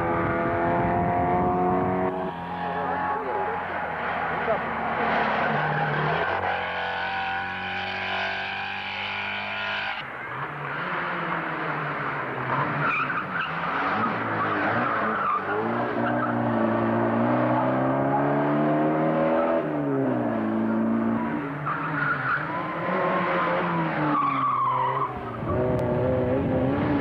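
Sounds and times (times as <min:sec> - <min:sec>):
rally car engines passing: 0:00.0 - 0:27.0.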